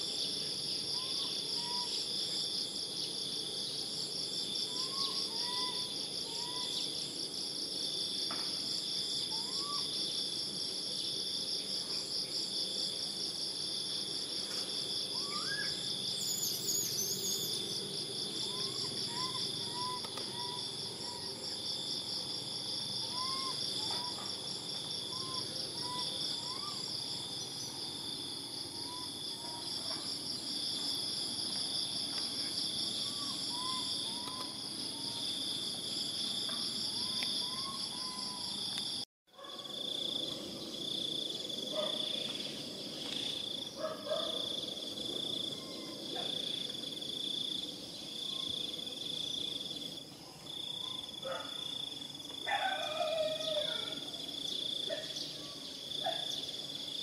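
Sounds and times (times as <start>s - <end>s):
insect chorus drone: 0.0s - 57.0s.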